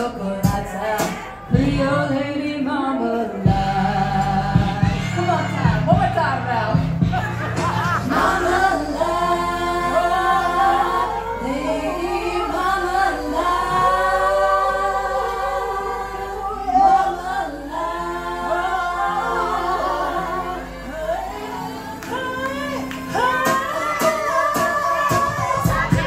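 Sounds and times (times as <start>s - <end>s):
women singing in close harmony: 0.0s - 7.0s, 7.8s - 26.0s.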